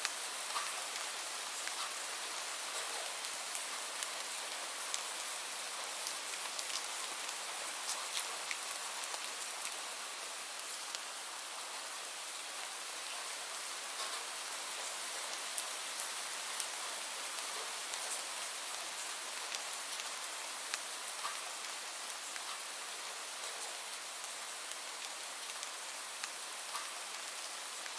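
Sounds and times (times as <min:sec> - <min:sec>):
rain hiss: 0:00.0 - 0:27.9.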